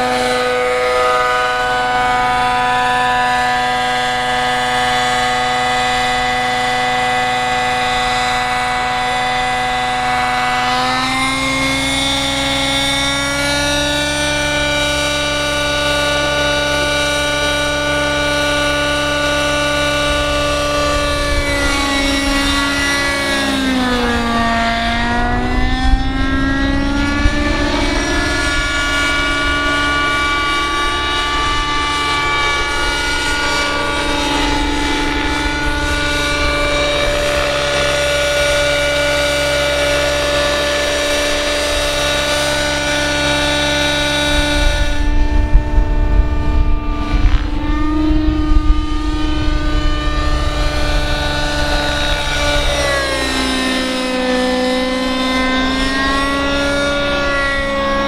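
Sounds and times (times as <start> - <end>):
model helicopter rotor whine: 0.0 - 58.0.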